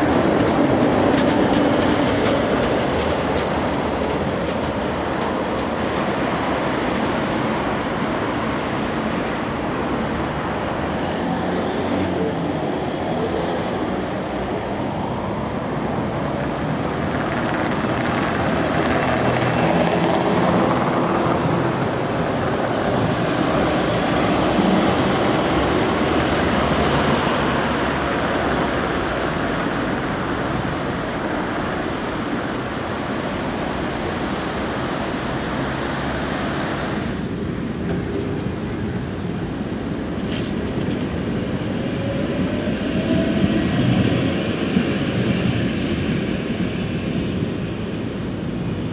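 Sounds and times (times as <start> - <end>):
tram rumbling on rails: 0.0 - 48.9.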